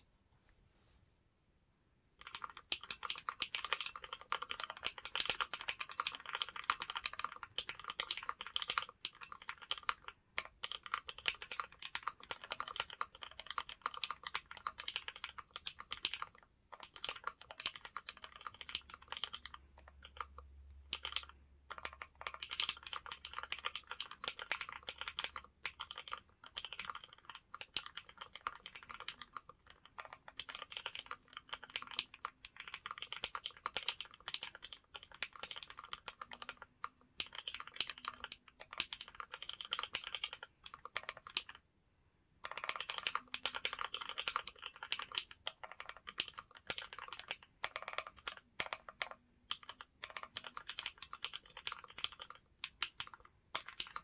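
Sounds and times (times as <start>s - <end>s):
mechanical keyboard typing: 2.2s - 41.6s, 42.4s - 54.0s.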